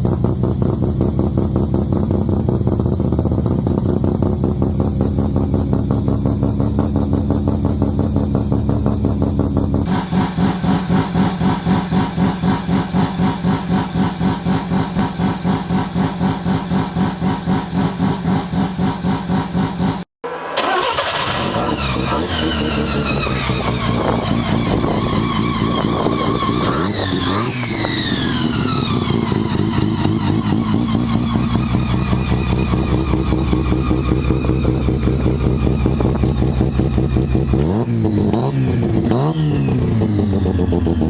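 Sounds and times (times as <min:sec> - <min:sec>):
rotary engine lumpy idle: 0:00.0 - 0:20.0, 0:20.8 - 0:41.0
engine revving: 0:00.0 - 0:41.0.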